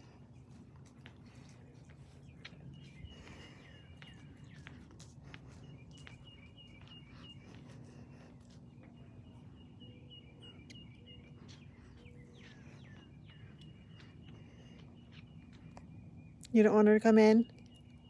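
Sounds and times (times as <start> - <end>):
faint outdoor background noise: 0.0 - 18.0
faint steady hum: 0.0 - 18.0
songbird chirping: 0.0 - 18.0.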